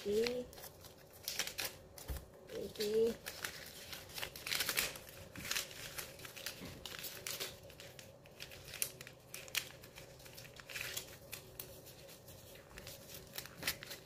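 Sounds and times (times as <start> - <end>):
banknotes rustling: 0.0 - 14.0.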